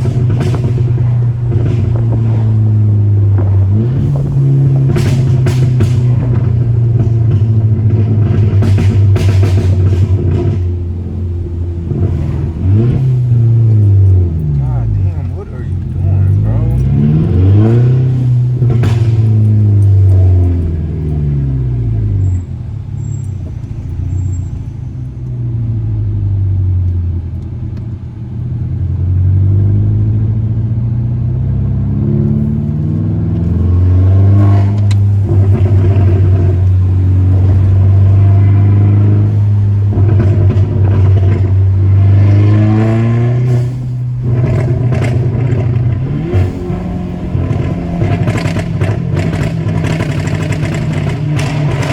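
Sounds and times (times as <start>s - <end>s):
exhaust pops and crackles: 0.0s - 26.0s, 32.2s - 51.9s
car engine revving: 0.0s - 51.9s.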